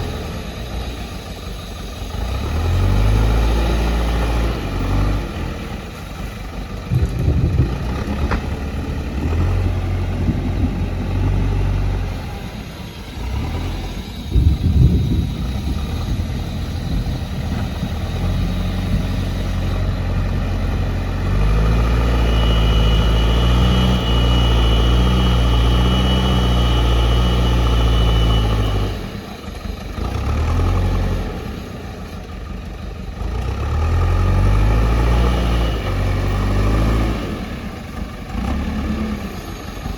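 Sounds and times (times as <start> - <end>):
loader diesel engine working: 0.0 - 39.9.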